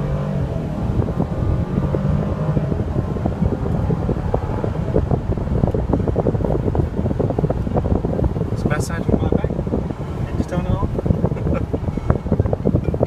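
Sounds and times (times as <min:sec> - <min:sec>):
car engine running: 0:00.0 - 0:13.0
road rumble: 0:00.0 - 0:13.0
wind buffeting microphone: 0:00.0 - 0:13.0.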